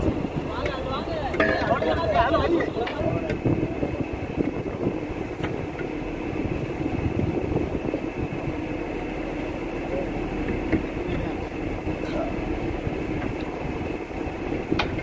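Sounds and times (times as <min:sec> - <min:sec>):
boat diesel engine idling: 0:00.0 - 0:15.0.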